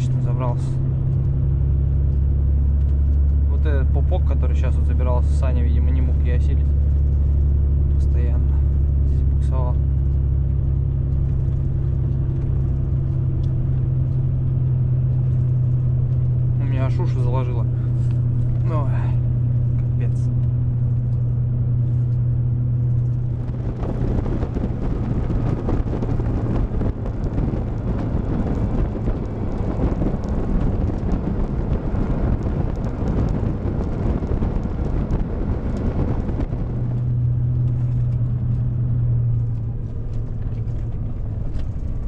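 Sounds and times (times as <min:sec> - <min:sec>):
road noise: 0:00.0 - 0:42.0
truck engine droning: 0:00.0 - 0:42.0.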